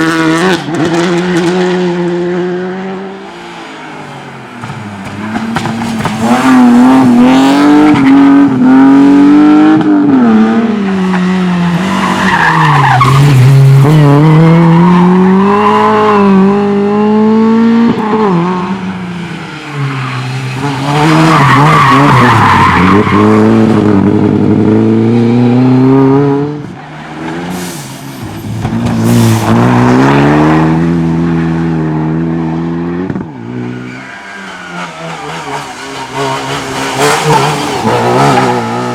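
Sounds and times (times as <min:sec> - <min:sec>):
rally car engine revving: 0:00.0 - 0:27.6, 0:28.2 - 0:38.9.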